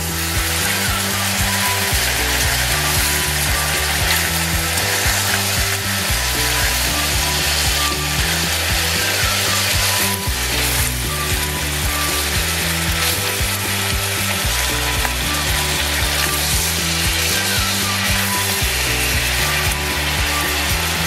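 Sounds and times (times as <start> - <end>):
chicken sizzling in a wok: 0.0 - 21.0.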